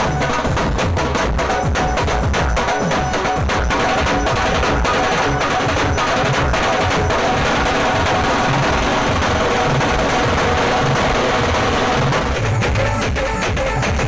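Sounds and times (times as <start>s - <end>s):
drum ensemble playing: 0.0s - 14.0s.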